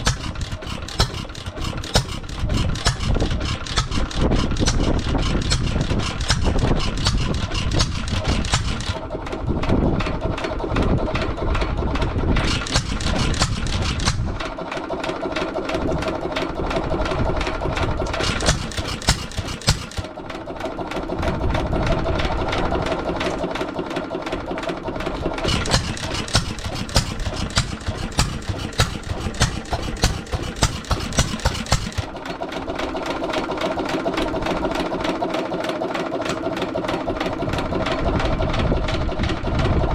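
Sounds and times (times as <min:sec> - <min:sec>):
stationary gas engine running fast: 0:00.0 - 0:39.9.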